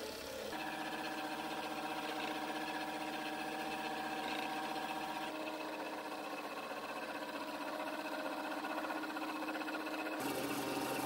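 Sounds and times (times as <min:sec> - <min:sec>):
milling machine whine: 0:00.0 - 0:11.0.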